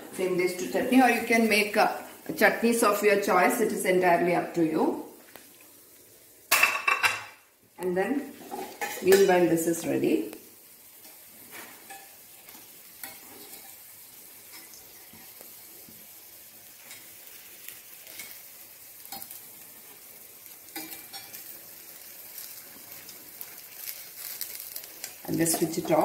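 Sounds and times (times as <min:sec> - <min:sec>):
dumplings sizzling in oil: 0:00.0 - 0:26.0.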